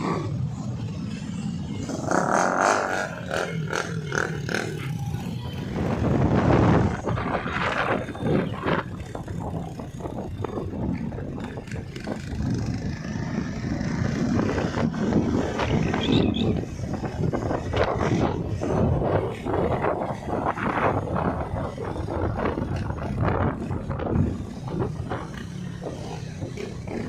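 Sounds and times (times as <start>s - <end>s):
motorcycle engine rumbling: 0.0s - 27.0s
road and wind noise: 0.0s - 27.0s.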